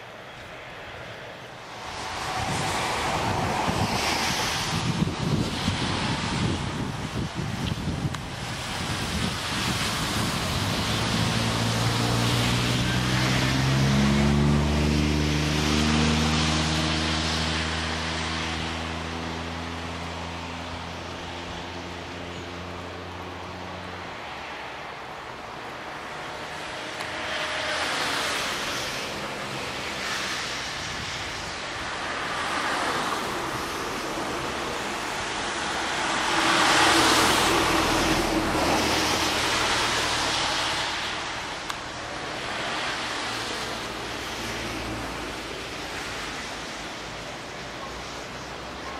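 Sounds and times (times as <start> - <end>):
road noise hiss: 0.0 - 48.9
vehicle engine hum: 9.1 - 48.9.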